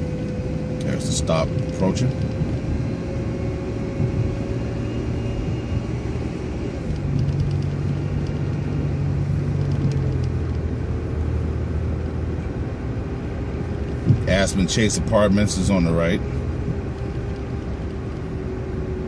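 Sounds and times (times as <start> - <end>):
bus engine running: 0.0 - 19.0
road rumble: 0.0 - 19.0.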